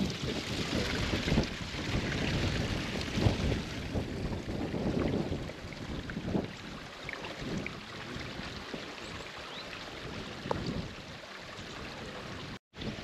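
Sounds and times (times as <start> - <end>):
brook running over stones: 0.0 - 13.0
wind gusting on microphone: 0.0 - 13.0.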